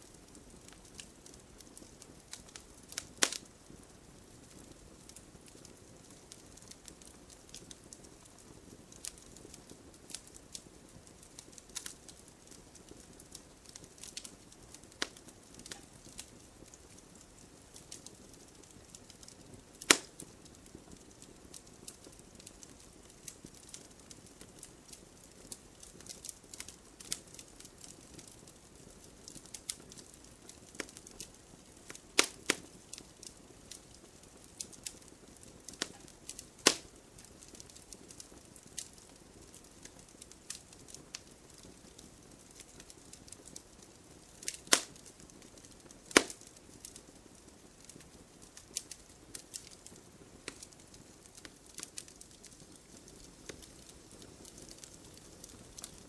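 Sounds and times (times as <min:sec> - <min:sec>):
campfire crackling: 0:00.0 - 0:56.0
loud pops from burning wood: 0:00.0 - 0:56.0.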